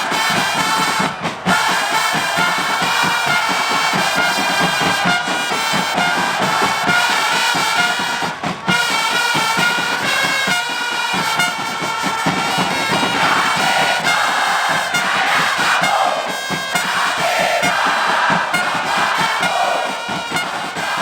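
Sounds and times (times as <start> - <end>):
crowd singing: 0.0 - 10.6, 12.2 - 21.0
fast drum beat: 0.0 - 21.0
trumpets playing a chant melody: 0.0 - 21.0.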